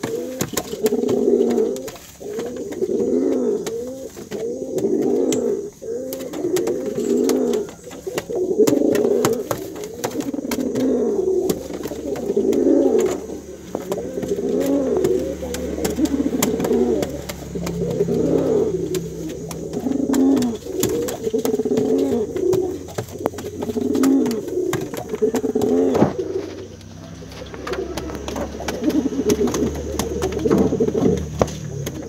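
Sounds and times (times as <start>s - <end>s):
pigeon cooing: 0.0s - 32.0s.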